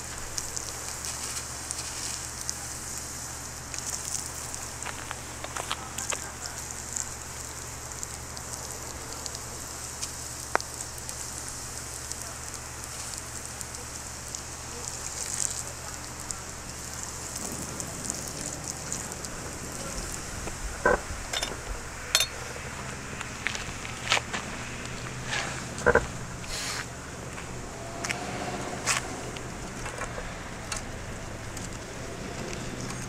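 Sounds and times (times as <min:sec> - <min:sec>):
powder sizzling and crackling: 0:00.0 - 0:33.0.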